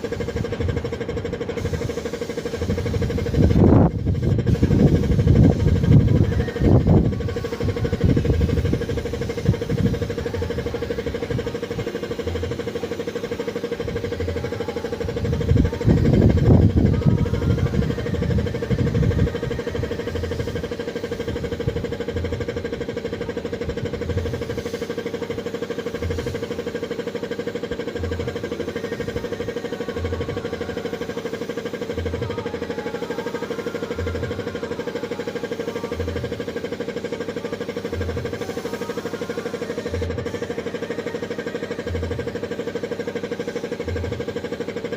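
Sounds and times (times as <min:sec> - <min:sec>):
machine hum: 0:00.0 - 0:44.9.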